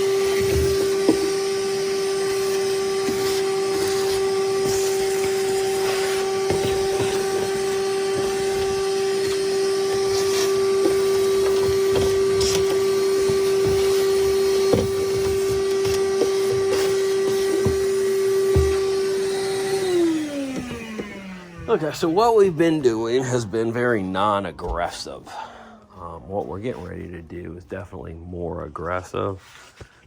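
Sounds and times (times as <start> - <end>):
vacuum cleaner running: 0.0 - 26.1.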